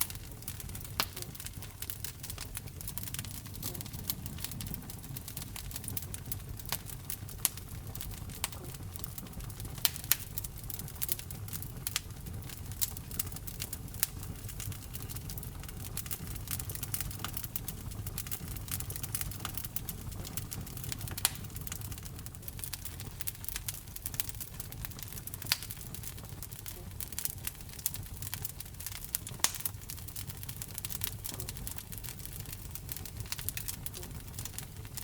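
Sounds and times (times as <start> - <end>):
wood fire burning: 0.0 - 35.0.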